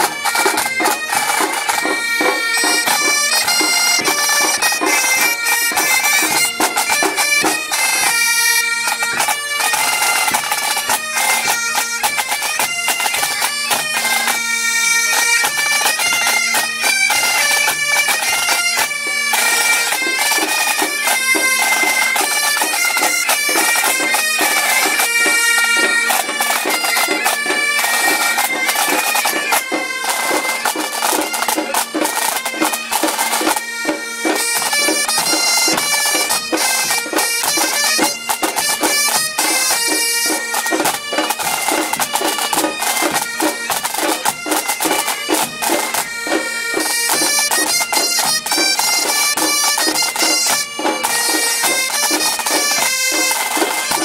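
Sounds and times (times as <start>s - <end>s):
bagpipes playing: 0.0s - 54.0s
drums beating: 0.0s - 54.0s.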